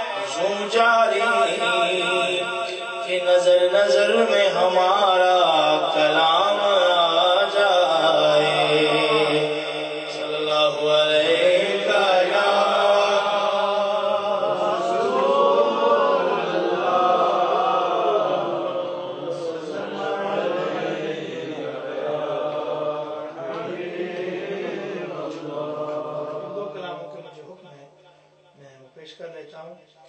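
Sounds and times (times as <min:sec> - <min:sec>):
man chanting into a microphone: 0:00.0 - 0:20.7, 0:24.2 - 0:30.0.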